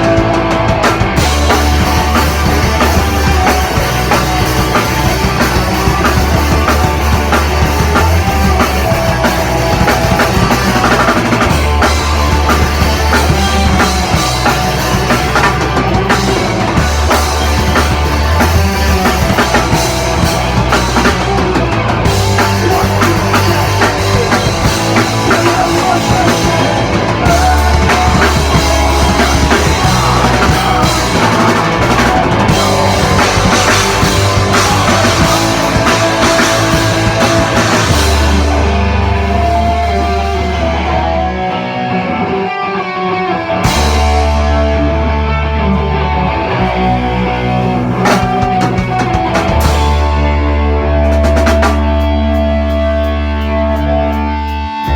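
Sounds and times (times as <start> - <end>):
loud rock music: 0.0 - 54.9.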